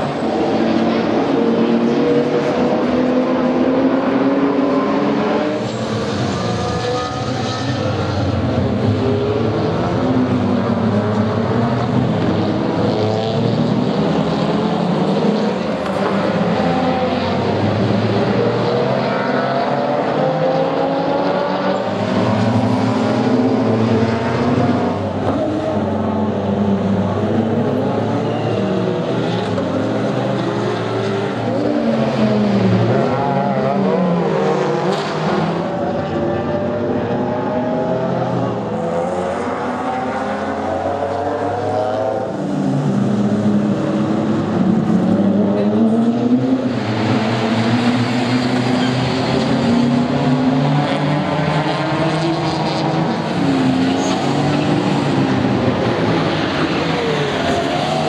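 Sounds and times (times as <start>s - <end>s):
racing car engines: 0.0s - 58.0s.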